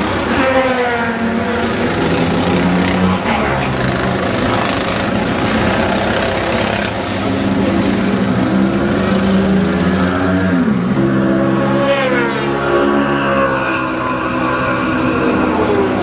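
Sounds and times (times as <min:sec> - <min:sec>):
go-kart engines racing: 0:00.0 - 0:16.0.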